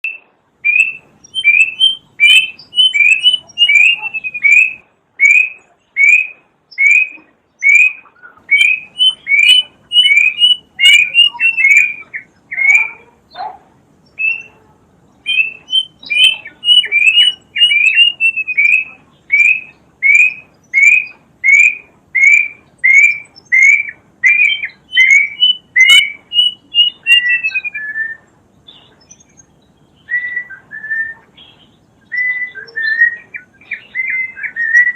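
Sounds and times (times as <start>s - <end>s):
cuckoo whistling: 0.0s - 13.1s, 14.2s - 14.6s, 15.3s - 28.3s, 30.0s - 31.4s, 32.1s - 34.9s.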